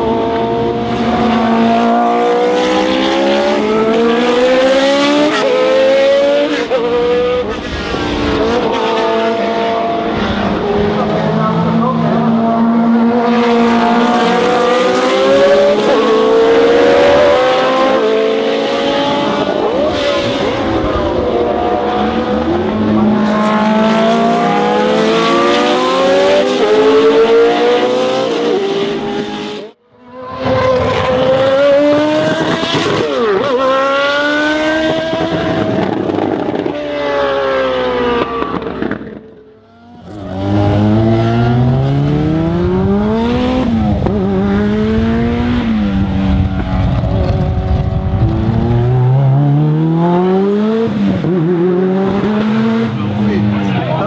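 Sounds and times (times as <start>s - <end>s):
racing car engines accelerating: 0.0s - 54.0s.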